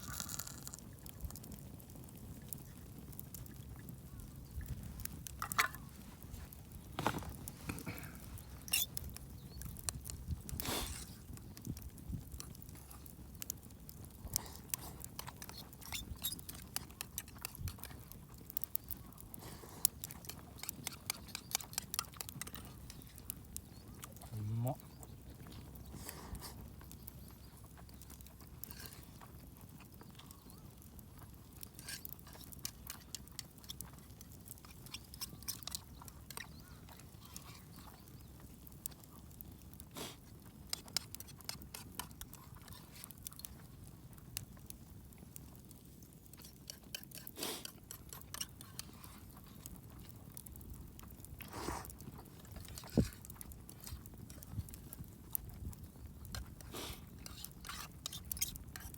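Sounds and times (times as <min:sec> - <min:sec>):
chewing: 0:00.0 - 0:58.9.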